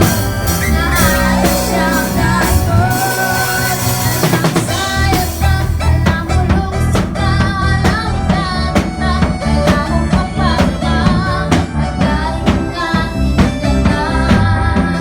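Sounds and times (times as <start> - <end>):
drum kit steady beat: 0.0 - 15.0
guitar: 0.0 - 15.0
person singing: 0.0 - 15.0.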